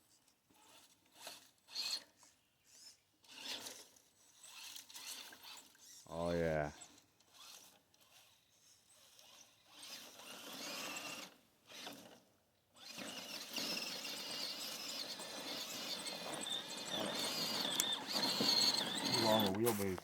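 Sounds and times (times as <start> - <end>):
electric motor and gears whining: 3.2 - 12.2, 12.8 - 20.0.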